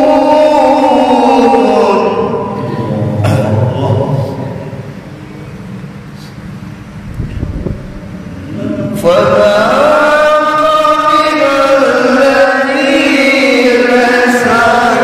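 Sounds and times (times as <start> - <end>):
men reciting in melodic chant: 0.0 - 6.5, 8.1 - 15.0.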